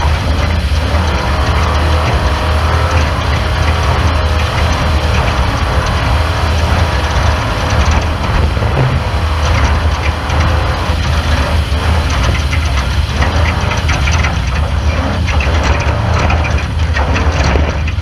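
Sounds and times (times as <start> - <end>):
race car engine droning: 0.0 - 18.0
rapid rattles and knocks: 0.0 - 18.0.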